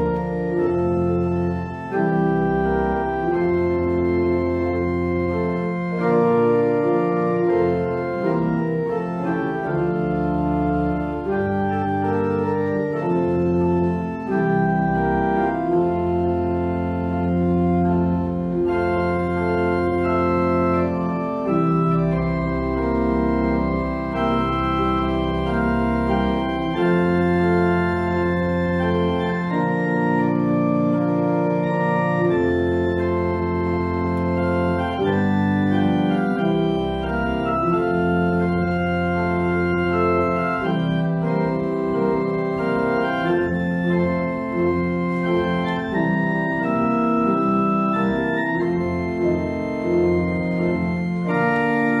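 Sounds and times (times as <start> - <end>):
organ chords: 0.0 - 52.0.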